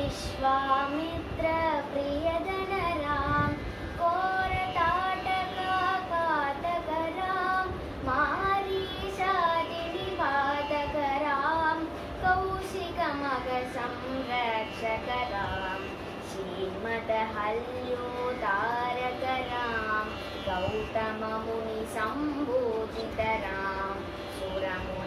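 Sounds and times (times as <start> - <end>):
girl singing ornamented phrases: 0.0 - 25.0.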